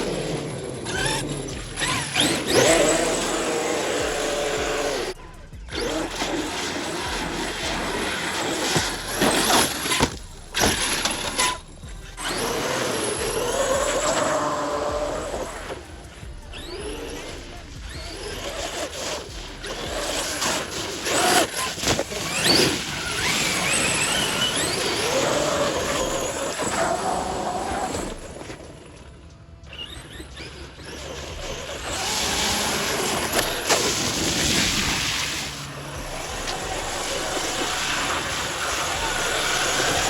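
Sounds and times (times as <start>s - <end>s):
electric motor whining: 0.0s - 40.0s
tires on dirt: 0.0s - 40.0s.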